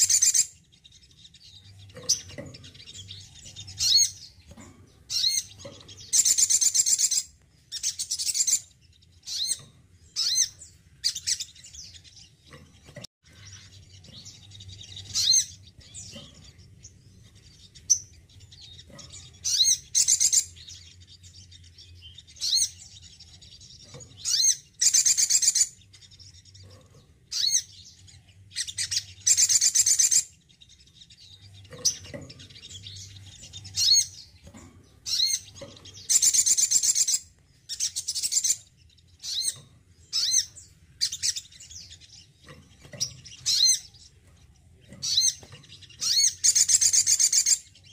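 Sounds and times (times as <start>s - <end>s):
sunbird chirping and trilling: 0.0s - 47.9s.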